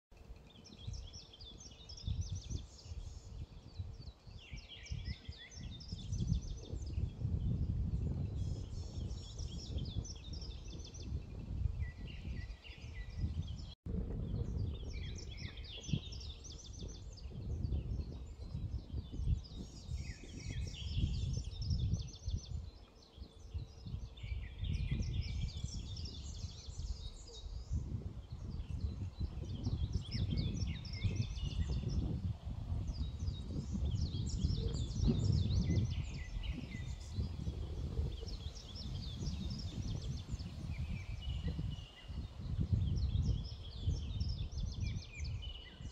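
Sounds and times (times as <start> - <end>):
wind buffeting microphone: 0.1 - 45.9
skylarks singing: 0.2 - 45.9.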